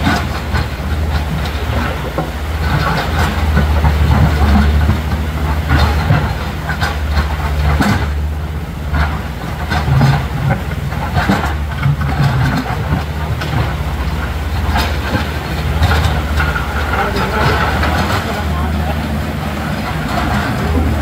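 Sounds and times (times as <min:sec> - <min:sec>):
excavator diesel engines running: 0:00.0 - 0:21.0
rushing river water: 0:00.0 - 0:21.0
steel bucket knocking on boulder: 0:00.0 - 0:21.0.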